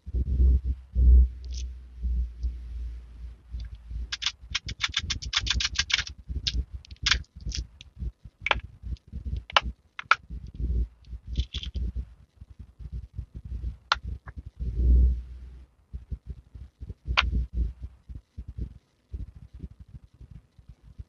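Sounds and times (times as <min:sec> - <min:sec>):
low handling thumps: 0:00.0 - 0:04.8, 0:06.1 - 0:21.0.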